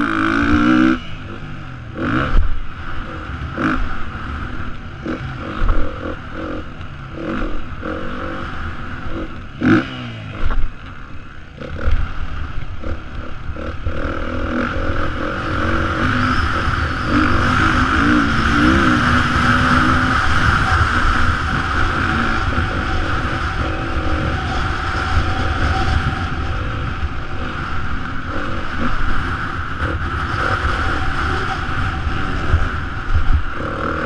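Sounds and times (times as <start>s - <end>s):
dirt bike engine revving: 0.0s - 34.0s
wind rushing over microphone: 0.0s - 34.0s.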